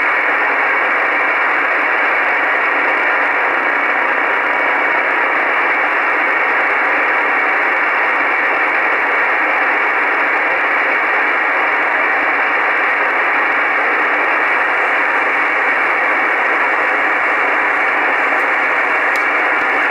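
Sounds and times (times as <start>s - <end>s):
radio static hiss: 0.0s - 19.9s.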